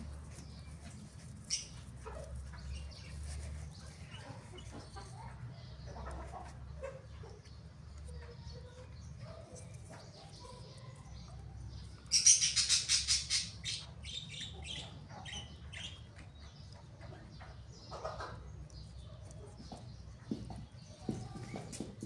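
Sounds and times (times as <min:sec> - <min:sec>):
small bird chirping: 0:00.0 - 0:21.8.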